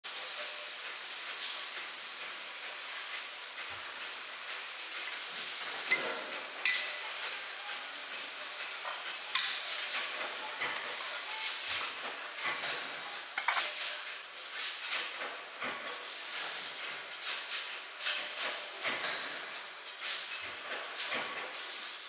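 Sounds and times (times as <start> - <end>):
workshop hiss: 0.1 - 22.0.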